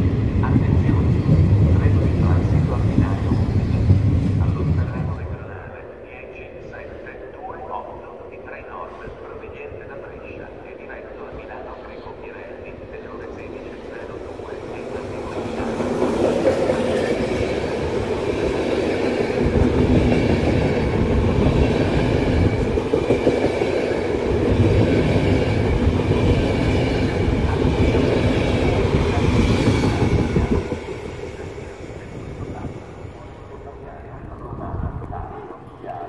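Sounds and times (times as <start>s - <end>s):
passenger train passing: 0.0s - 36.0s.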